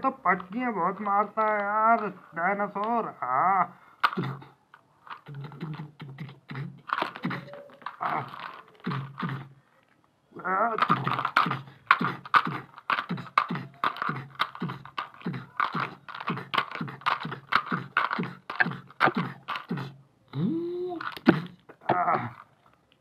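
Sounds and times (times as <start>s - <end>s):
man making mouth sound effects: 0.0s - 9.6s, 10.4s - 22.5s.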